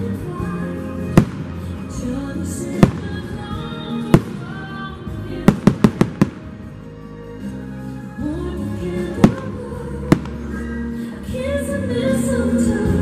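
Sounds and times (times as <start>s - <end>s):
holiday music: 0.0s - 13.0s.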